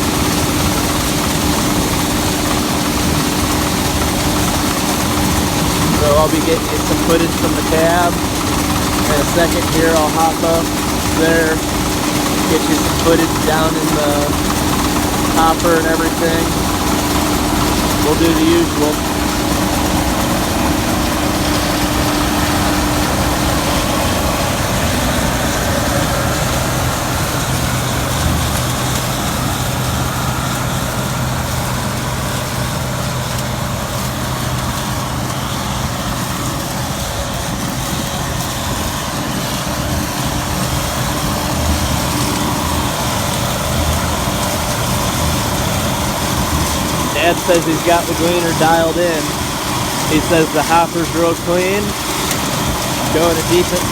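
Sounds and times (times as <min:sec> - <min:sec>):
machinery rushing noise: 0:00.0 - 0:34.4, 0:35.0 - 0:53.9
combine harvester engine drone: 0:00.0 - 0:53.9.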